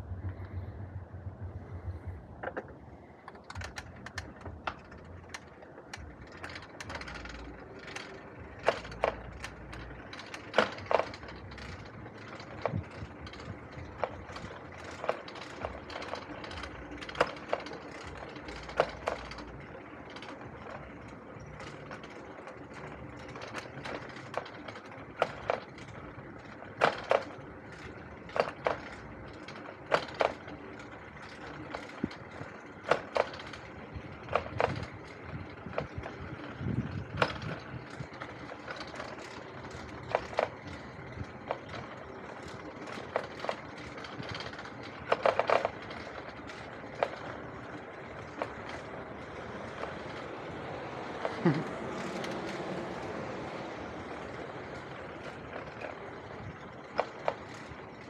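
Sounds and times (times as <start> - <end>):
bike rattling clicks and knocks: 0.0 - 58.0
bike rolling on concrete: 0.0 - 58.0.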